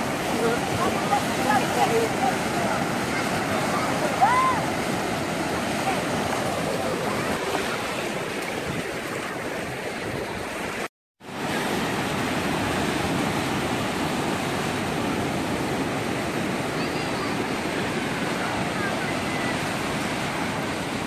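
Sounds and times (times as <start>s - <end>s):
surf washing onto beach: 0.0s - 21.0s.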